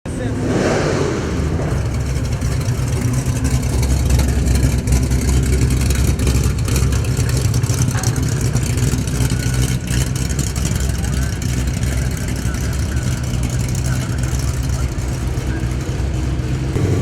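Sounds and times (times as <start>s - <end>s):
loud car engine running: 0.0s - 17.0s.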